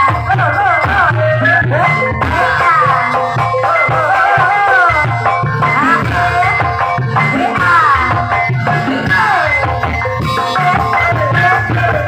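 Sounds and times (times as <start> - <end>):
gamelan ensemble music: 0.0 - 12.0
pulsing drums: 0.0 - 12.0.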